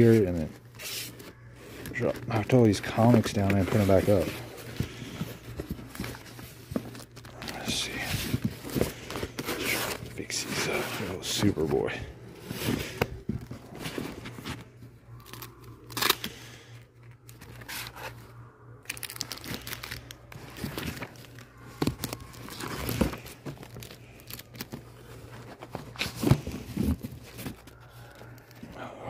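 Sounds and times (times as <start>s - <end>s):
comic books rustling: 0.0s - 29.0s.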